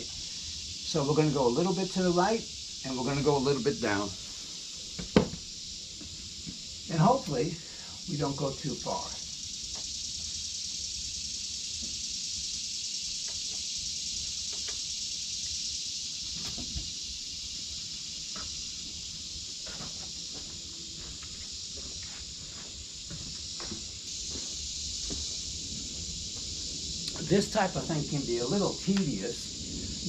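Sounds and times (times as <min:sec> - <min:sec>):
high-pitched hiss: 0:00.0 - 0:30.0.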